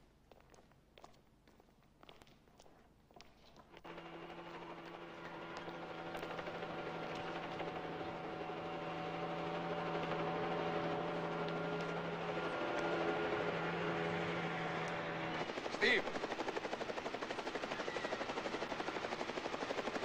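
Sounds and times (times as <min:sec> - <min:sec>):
droning hum of held tones: 0:03.8 - 0:20.0.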